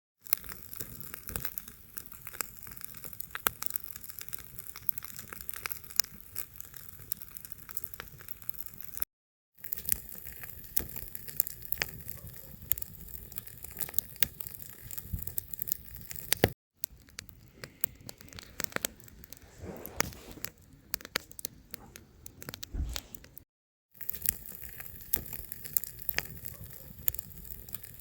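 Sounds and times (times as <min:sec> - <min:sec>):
campfire crackling and popping: 0:00.2 - 0:09.0, 0:09.6 - 0:23.4, 0:24.0 - 0:28.0.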